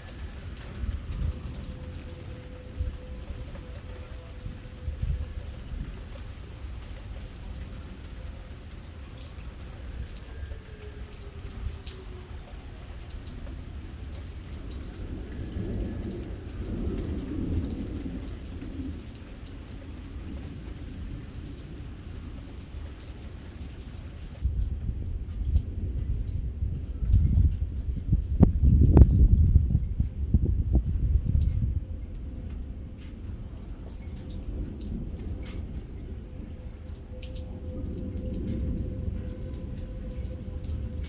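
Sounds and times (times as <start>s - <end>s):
low rumble of thunder: 0.0s - 41.0s
raindrops tapping close by: 0.0s - 41.0s
steady rain falling: 0.0s - 41.0s.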